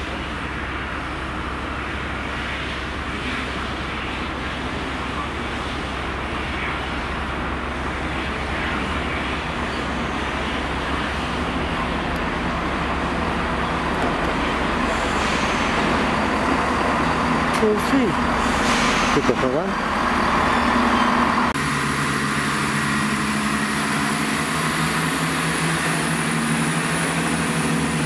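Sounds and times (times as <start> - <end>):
diesel train engines: 0.0 - 28.0
train wheels on rails: 0.0 - 28.0.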